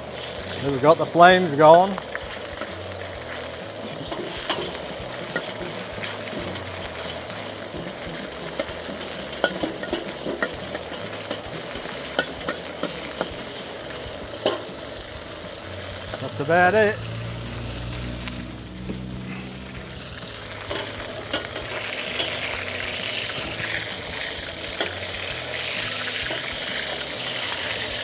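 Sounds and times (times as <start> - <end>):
metal spatula scraping wok: 0.0 - 16.4, 17.0 - 28.0
beef sizzling in a wok: 0.0 - 28.0
gas burner: 0.0 - 28.0.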